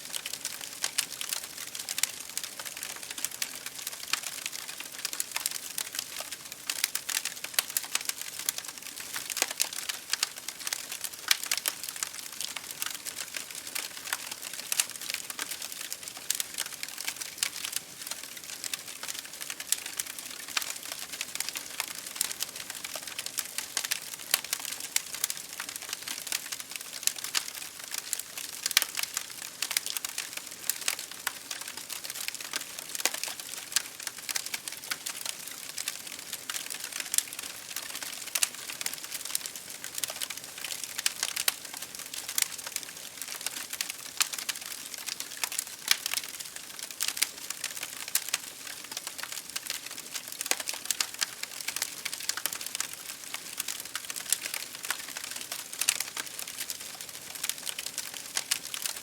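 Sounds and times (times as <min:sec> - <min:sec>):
rain on a window pane: 0:00.0 - 0:59.0
wood fire crackling: 0:00.0 - 0:59.0.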